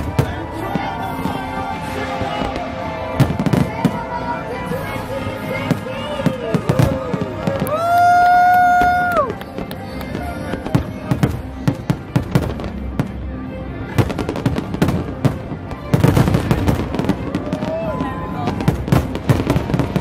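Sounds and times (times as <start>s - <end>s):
fireworks bangs and crackles: 0.0s - 13.2s, 13.8s - 20.0s.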